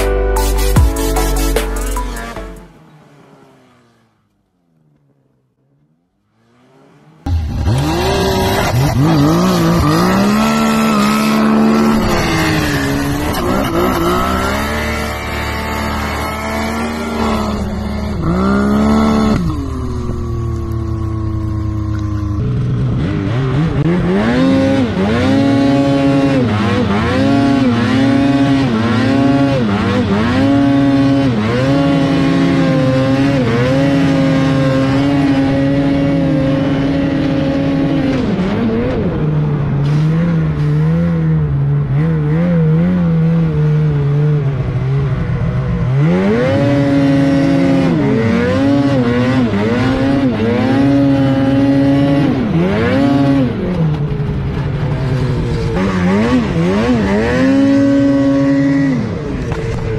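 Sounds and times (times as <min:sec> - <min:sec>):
snowmobile engines revving: 0:06.3 - 0:59.9.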